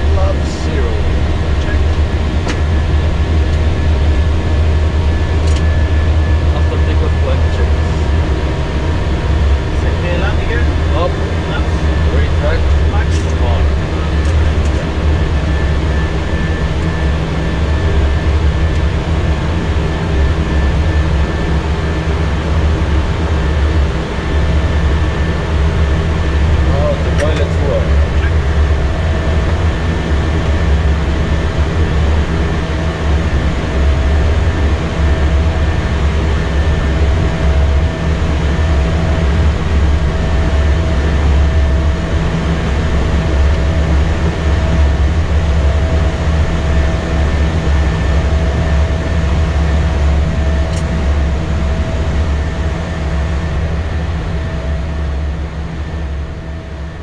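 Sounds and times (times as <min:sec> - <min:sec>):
deep rumble of jet engines: 0:00.0 - 0:57.0.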